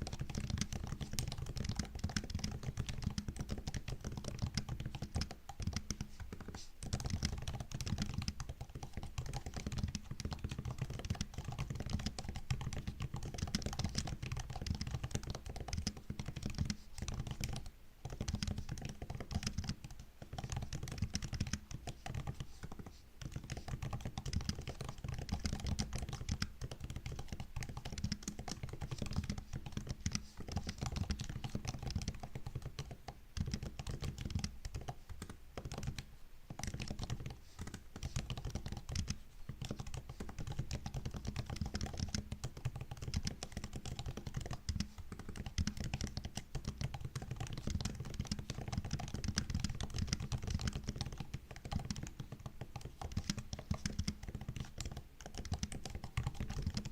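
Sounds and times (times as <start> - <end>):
fast laptop keyboard typing: 0.0 - 56.9.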